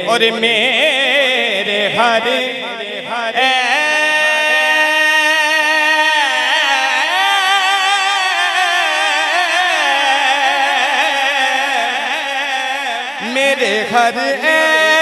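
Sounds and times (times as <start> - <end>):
man singing long ornamented note: 0.0 - 15.0.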